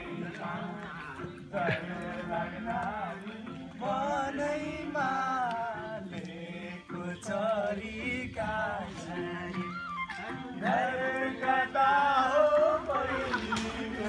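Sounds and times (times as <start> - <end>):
instrumental backing: 0.0 - 14.0.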